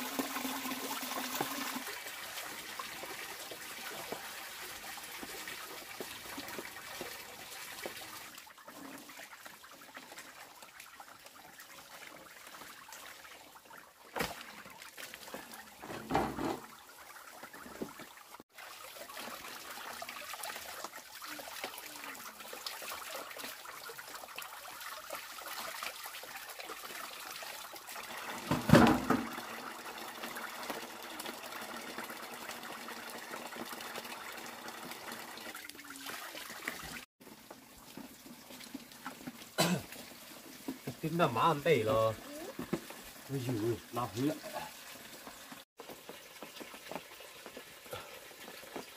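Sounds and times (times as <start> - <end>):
water running from a hose: 0.0 - 48.9
water splashing into plastic basin: 0.0 - 48.9.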